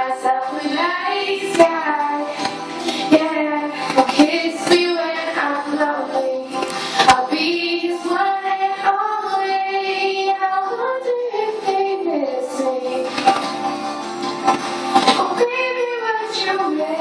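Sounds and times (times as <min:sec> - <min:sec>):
girl singing into microphone: 0:00.0 - 0:13.2, 0:15.1 - 0:17.0.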